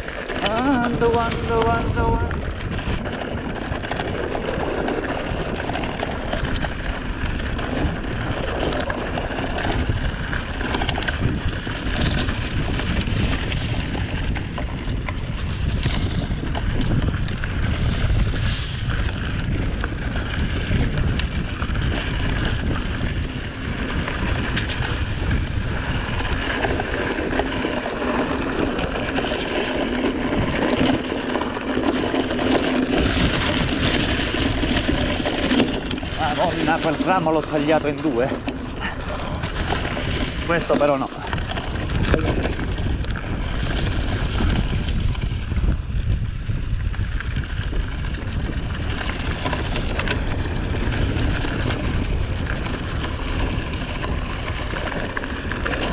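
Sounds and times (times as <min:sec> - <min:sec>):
mountain bike rumbling and rattling: 0:00.0 - 0:55.9
wind rushing over microphone: 0:00.0 - 0:55.9.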